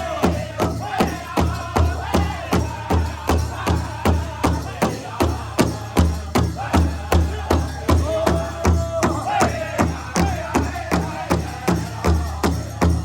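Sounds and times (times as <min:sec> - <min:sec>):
fast drum beat: 0:00.0 - 0:13.0.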